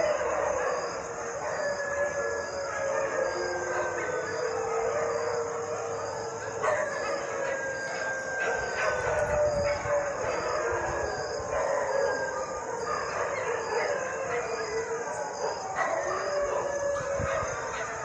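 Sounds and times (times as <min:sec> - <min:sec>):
dogs howling: 0:00.0 - 0:18.0.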